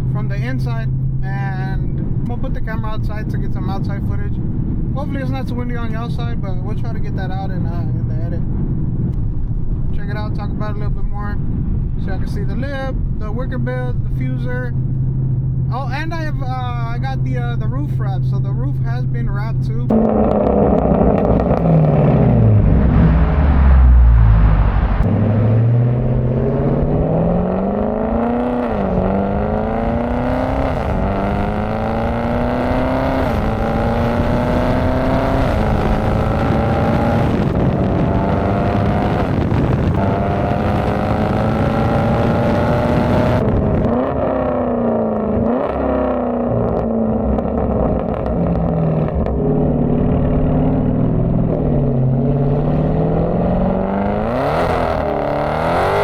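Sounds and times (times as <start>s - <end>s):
car exhaust accelerating: 0.0s - 56.0s.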